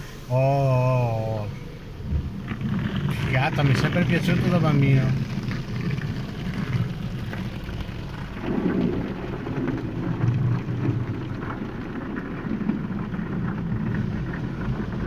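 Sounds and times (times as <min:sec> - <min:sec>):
car wash water spraying: 0:00.0 - 0:15.0.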